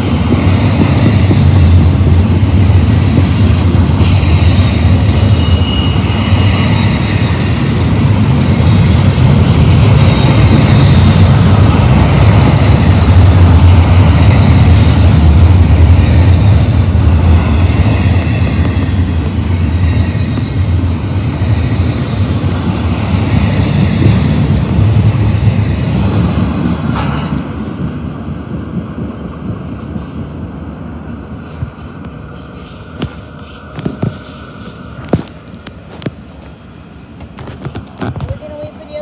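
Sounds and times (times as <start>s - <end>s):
freight train clattering past: 0.0s - 39.0s.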